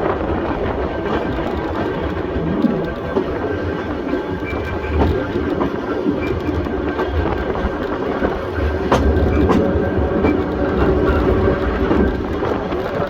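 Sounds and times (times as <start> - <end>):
railway car rumbling on track: 0.0 - 13.0.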